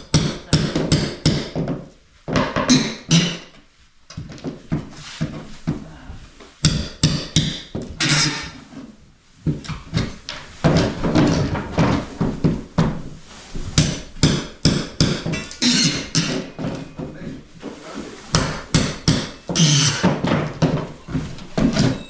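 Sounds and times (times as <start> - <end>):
knocks and bangs from repair work: 0.0 - 8.7, 9.4 - 22.0.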